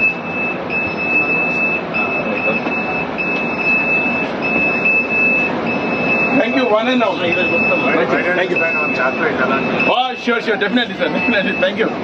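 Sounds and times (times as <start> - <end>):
bus running noise: 0.0 - 12.0
electronic warning beeps: 0.0 - 12.0.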